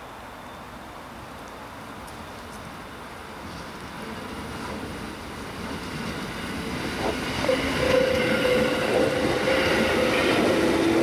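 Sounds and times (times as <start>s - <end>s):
train wheels rumbling on rails: 1.8s - 11.0s.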